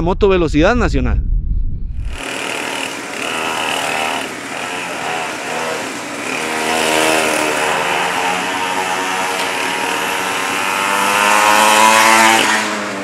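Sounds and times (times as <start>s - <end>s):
small motorcycle engines revving: 2.1s - 13.0s.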